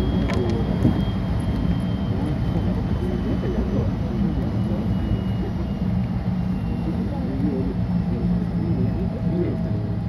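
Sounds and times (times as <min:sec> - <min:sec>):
faint high whine: 0:00.0 - 0:10.0
wheels rumbling on rails: 0:00.0 - 0:10.0.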